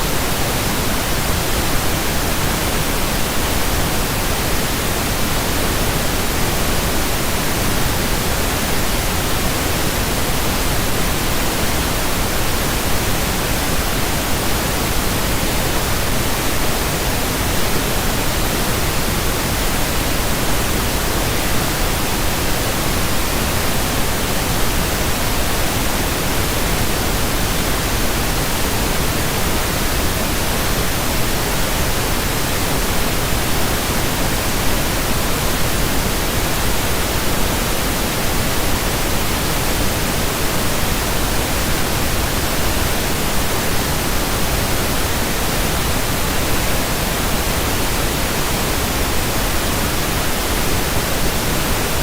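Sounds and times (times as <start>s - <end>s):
pink noise hiss: 0.0s - 52.0s.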